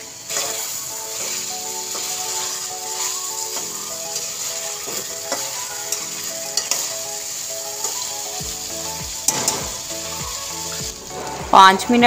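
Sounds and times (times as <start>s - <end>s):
meat and onions sizzling: 0.0s - 12.0s.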